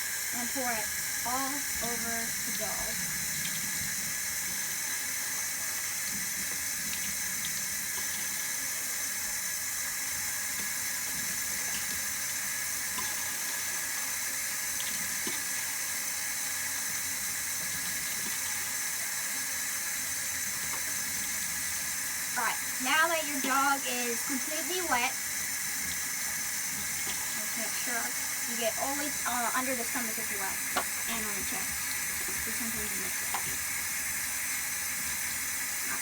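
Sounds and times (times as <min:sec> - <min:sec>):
water running from a tap: 0:00.0 - 0:36.0.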